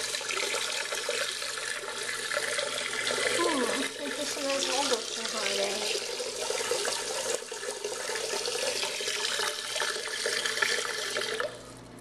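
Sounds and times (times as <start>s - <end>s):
water filling toilet tank: 0.0s - 12.0s.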